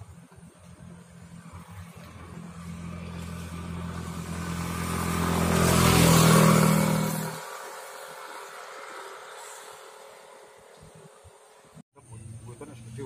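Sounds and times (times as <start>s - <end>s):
road noise rushing: 0.0s - 11.8s
vehicle engine passing: 0.0s - 13.0s.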